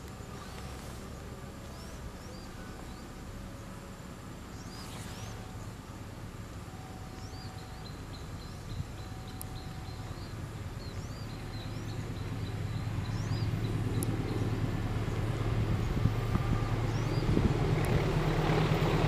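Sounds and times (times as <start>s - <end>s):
birds chirping: 0.0s - 3.8s, 4.4s - 5.8s, 6.8s - 18.0s
diesel train engine rumble: 0.0s - 19.0s.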